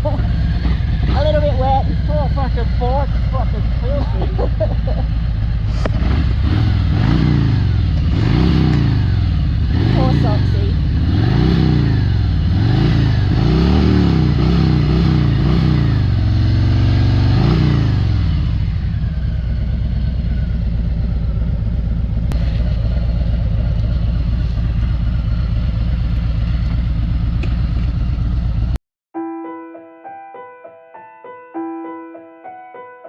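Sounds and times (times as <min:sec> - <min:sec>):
motorcycle engine revving: 0:00.0 - 0:28.8.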